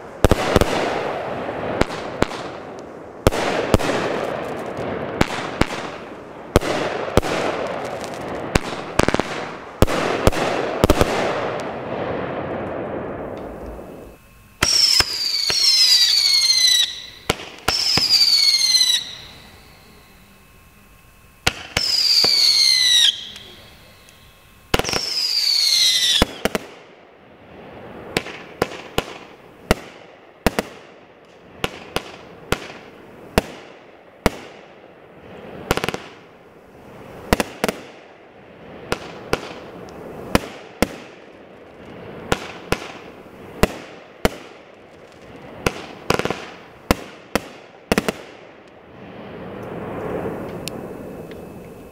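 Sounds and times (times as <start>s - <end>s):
firework bangs: 0.0s - 20.2s, 21.4s - 51.9s
firework crackle: 0.0s - 51.9s
whistling firework shots: 0.0s - 51.9s.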